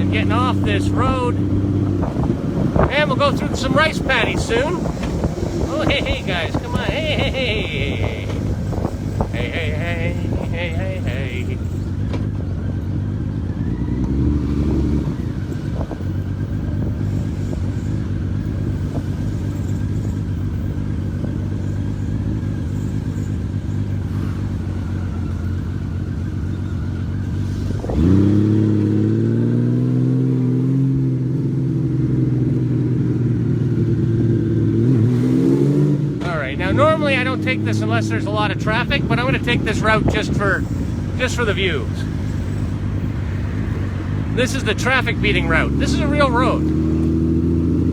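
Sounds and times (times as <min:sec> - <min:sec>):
motorcycle engine accelerating: 0:00.0 - 0:47.9
road and wind noise: 0:00.0 - 0:47.9.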